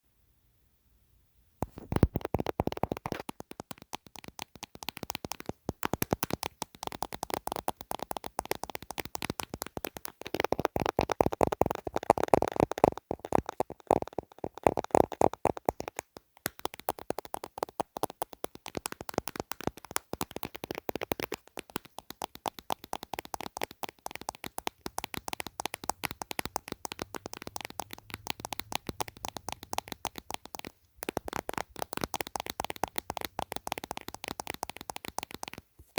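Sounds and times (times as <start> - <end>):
fingernail tapping on plastic: 1.6 - 35.6.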